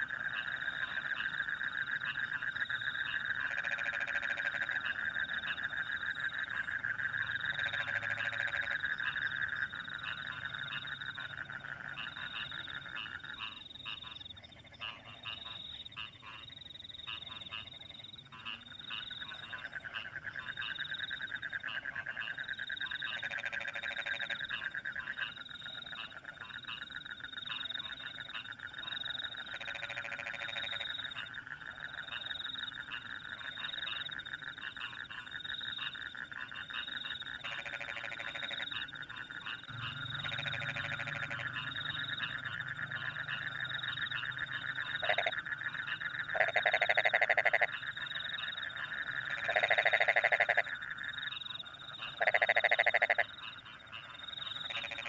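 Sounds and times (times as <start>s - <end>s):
crickets chirping: 0.0s - 55.0s
frogs trilling: 0.0s - 55.0s
single frog croaks: 0.0s - 55.0s.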